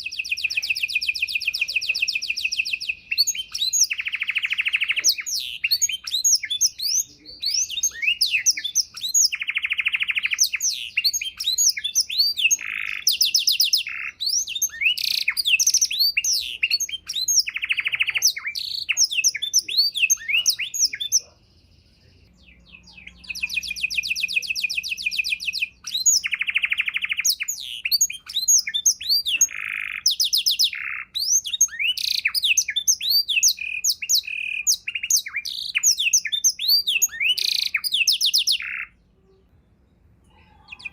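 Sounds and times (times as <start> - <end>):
canary singing: 0.0 - 39.6, 40.2 - 40.9.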